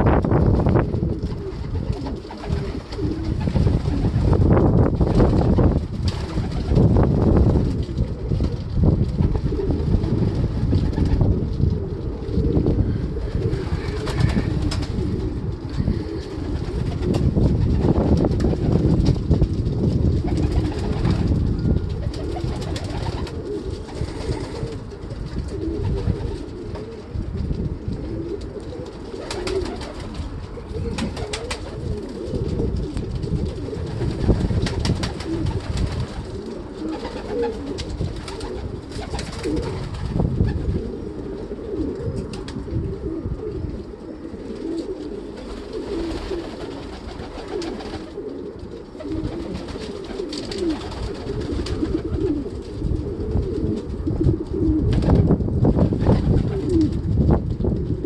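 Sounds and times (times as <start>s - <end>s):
wings flapping: 0.0s - 41.4s, 42.0s - 42.8s, 44.4s - 58.0s
pigeons cooing: 0.0s - 58.0s.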